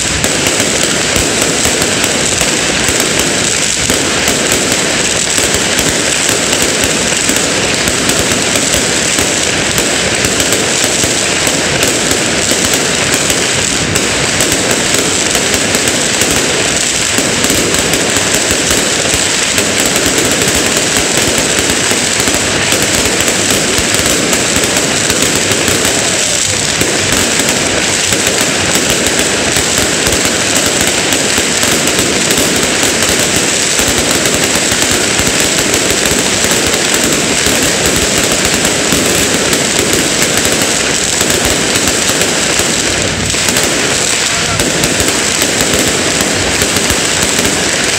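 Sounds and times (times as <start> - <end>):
fireworks and firecrackers crackling: 0.0 - 47.9.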